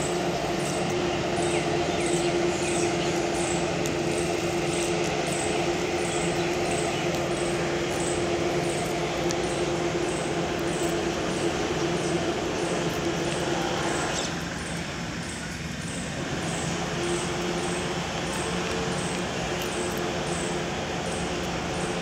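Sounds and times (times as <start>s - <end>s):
mechanical hum with low drone: 0.0s - 22.0s.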